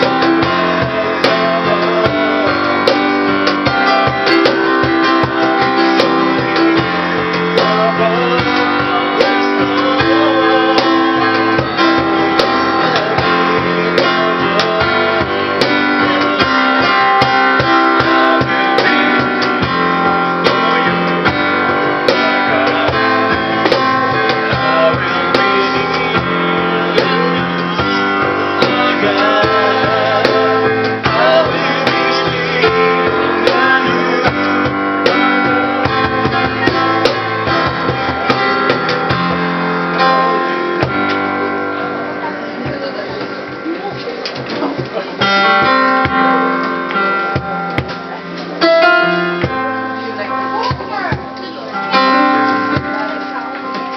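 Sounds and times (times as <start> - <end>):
acoustic guitar strumming: 0.0 - 53.9
sharp percussive beats: 0.0 - 53.9.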